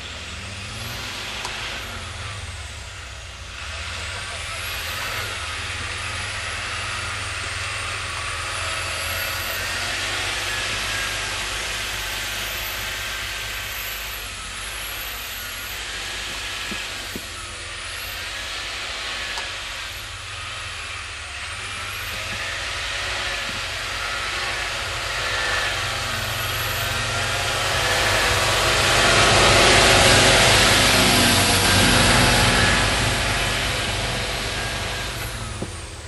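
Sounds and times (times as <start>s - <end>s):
truck diesel engine rumbling: 0.0s - 36.0s.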